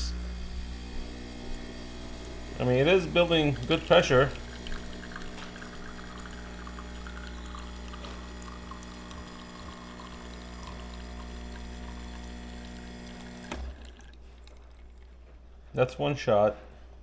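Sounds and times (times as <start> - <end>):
espresso machine pump humming: 0.0 - 15.1
espresso pouring into cup: 0.0 - 15.2.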